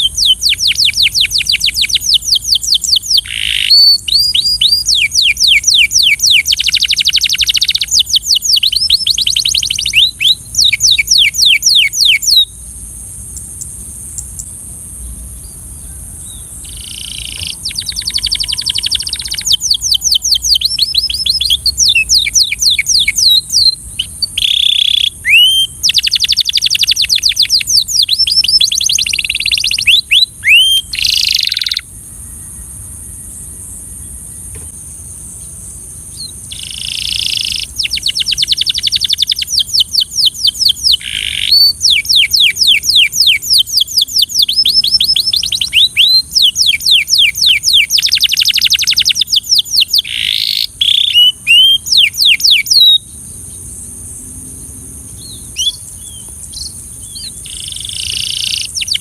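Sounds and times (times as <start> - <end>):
canary singing trills: 0.0 - 32.4, 35.4 - 54.0, 55.0 - 59.0
steady high hiss: 0.0 - 59.0.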